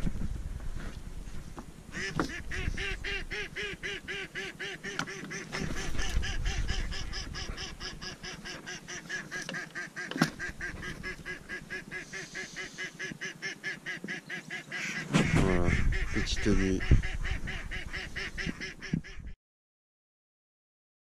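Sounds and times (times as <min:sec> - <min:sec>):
waterfowl nasal calls: 0:01.9 - 0:19.4.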